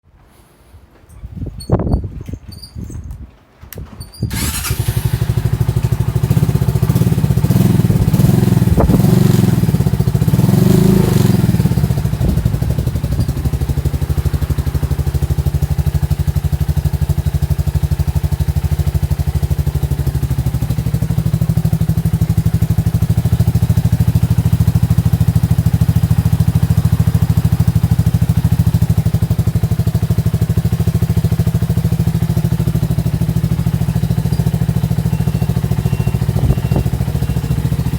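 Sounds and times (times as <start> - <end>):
engine throttle blips: 4.3 - 18.0, 18.8 - 37.9
engine idling: 4.3 - 37.9.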